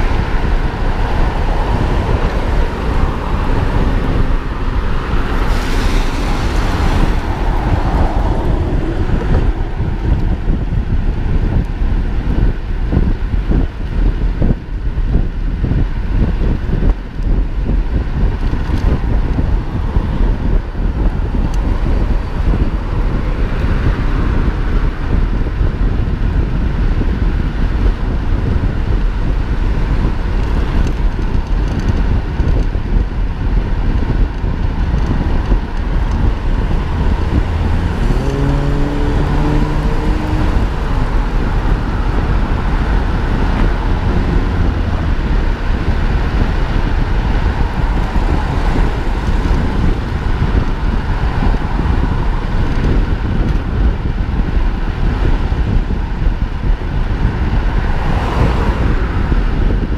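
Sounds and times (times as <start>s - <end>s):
passing vehicle pitched hum: 0.0s - 59.9s
road traffic noise: 0.0s - 59.9s
wind rumble on microphone: 0.0s - 59.9s.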